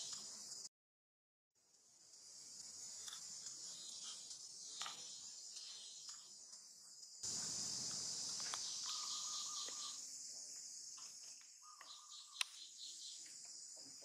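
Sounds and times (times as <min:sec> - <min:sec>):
high-pitched insect chorus: 0:00.0 - 0:00.7, 0:01.6 - 0:14.0.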